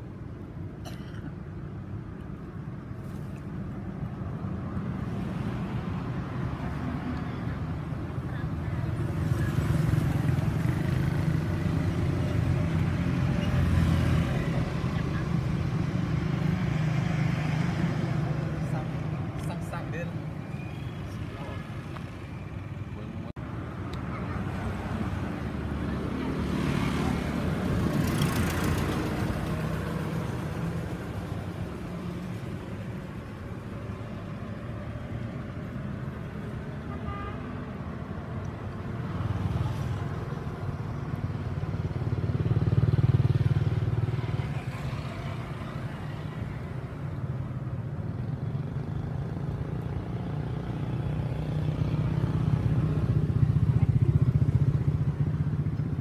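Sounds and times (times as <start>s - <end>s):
vehicle engines passing: 0.0s - 56.0s.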